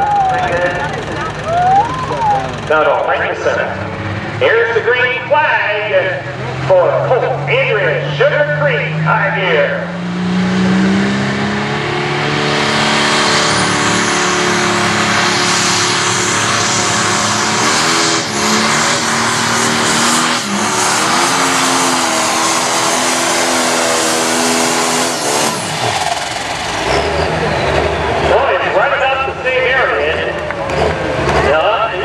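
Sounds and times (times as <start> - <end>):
diesel engine at full throttle: 0.0 - 32.0.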